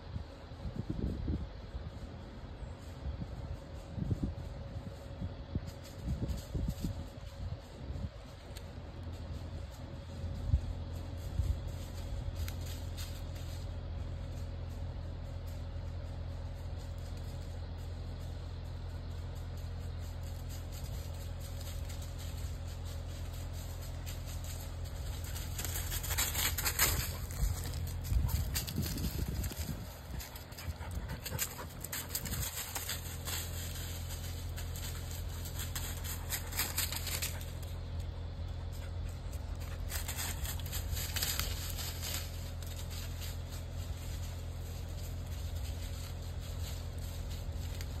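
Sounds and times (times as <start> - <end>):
engine idling hum: 0.0 - 48.0
rustling of dry leaves: 0.0 - 48.0.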